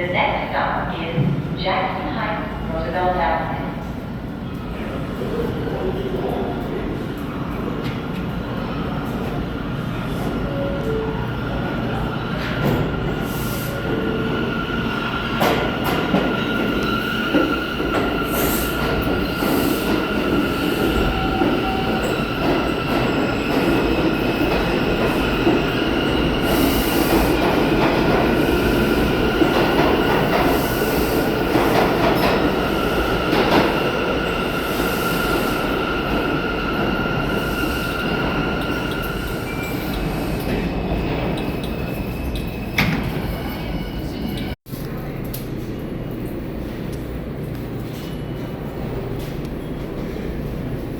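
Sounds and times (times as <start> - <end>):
train wheels rumbling on rail: 3.2 - 50.9.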